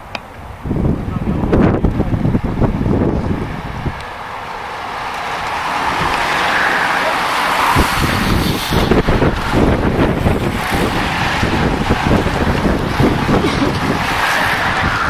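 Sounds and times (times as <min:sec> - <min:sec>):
wind on microphone: 0:00.0 - 0:15.0
bicycle tyres hissing on road: 0:00.5 - 0:15.0.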